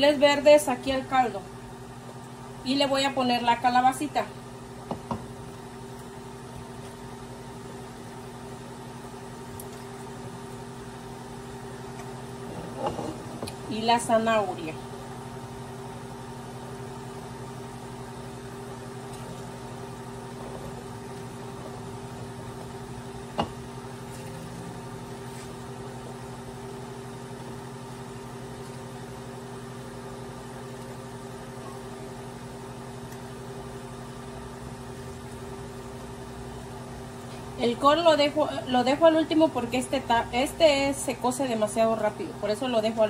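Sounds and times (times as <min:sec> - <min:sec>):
appliance electrical hum: 0:00.0 - 0:43.0.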